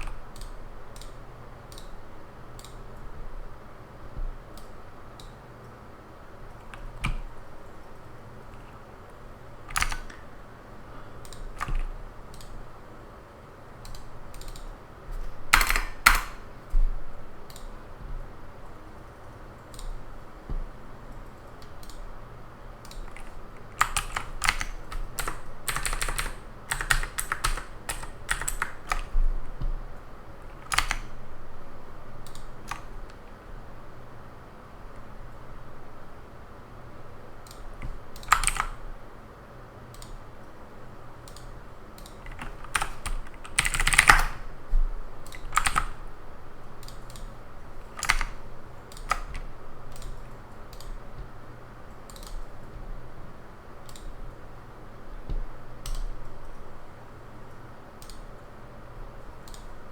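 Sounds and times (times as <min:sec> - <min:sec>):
keyboard typing: 0:00.0 - 0:03.5, 0:04.1 - 0:05.8, 0:06.4 - 0:12.8, 0:13.7 - 0:33.4, 0:37.4 - 0:39.0, 0:39.9 - 0:40.3, 0:41.2 - 0:53.2, 0:53.8 - 0:54.4, 0:55.1 - 0:58.5, 0:59.2 - 0:59.9
low steady hiss: 0:00.0 - 0:59.9.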